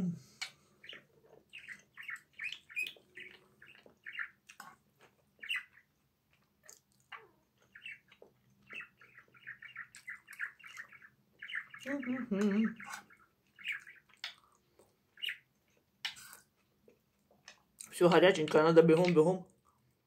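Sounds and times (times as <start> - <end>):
small bird chirping: 0.0 - 16.6.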